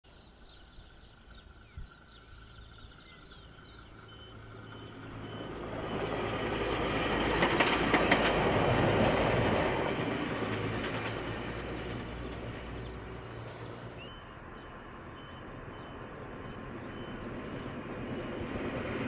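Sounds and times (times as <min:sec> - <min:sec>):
diesel locomotive rumble: 0:00.2 - 0:19.0
wheels clicking on track: 0:00.2 - 0:19.0.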